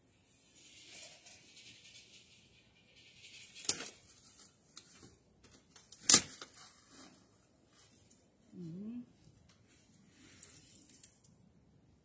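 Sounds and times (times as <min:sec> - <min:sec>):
rustling: 0:00.1 - 0:11.5.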